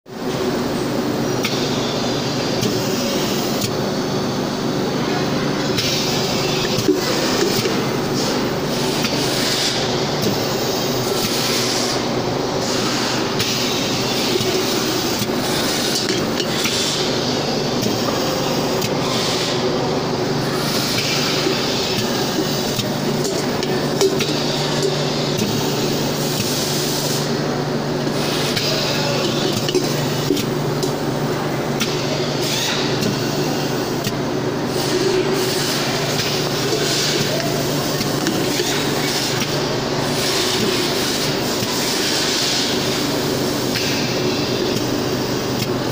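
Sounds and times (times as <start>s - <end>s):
printing machine hum and hiss: 0.1s - 45.9s.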